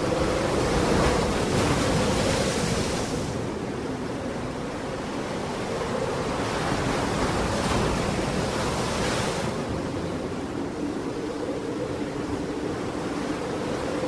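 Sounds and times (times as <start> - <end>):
sea waves breaking on shore: 0.0 - 14.0.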